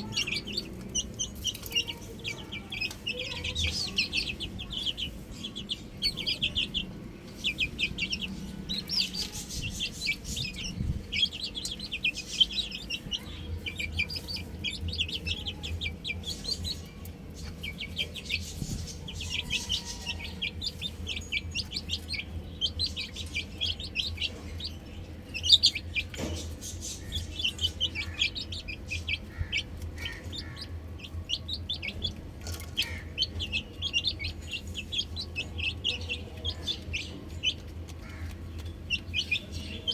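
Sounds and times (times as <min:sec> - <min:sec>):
chicks peeping: 0:00.0 - 0:39.9
low steady hum: 0:00.0 - 0:39.9.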